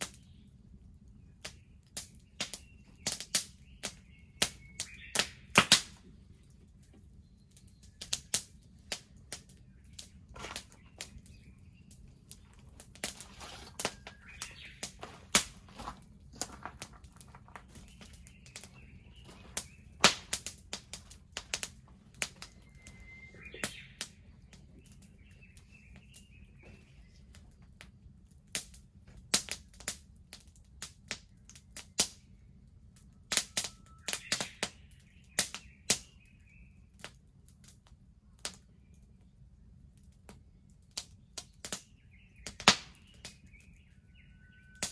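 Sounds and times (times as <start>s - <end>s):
bonfire crackling and popping: 0.0s - 26.5s, 27.3s - 44.9s
birds chirping faintly: 0.0s - 30.2s, 30.8s - 44.9s
low rumble of flames: 0.0s - 44.9s.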